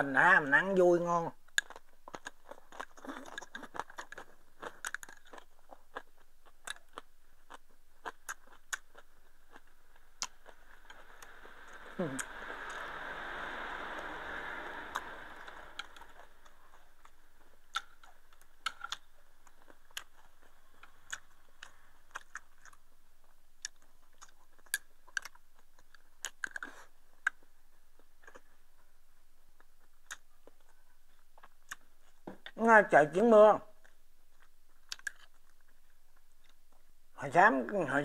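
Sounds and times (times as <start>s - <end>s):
faint chewing: 1.3s - 32.6s, 33.8s - 37.0s.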